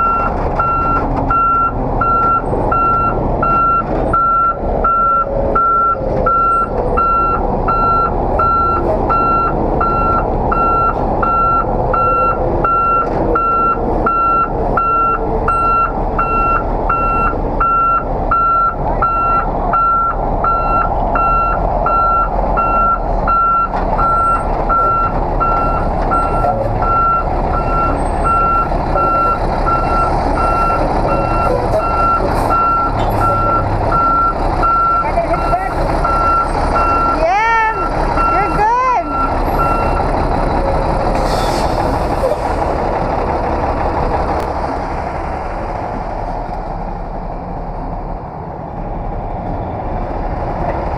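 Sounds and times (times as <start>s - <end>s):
truck backup alarm beeping: 0.0s - 42.2s
truck engine running: 0.0s - 50.9s.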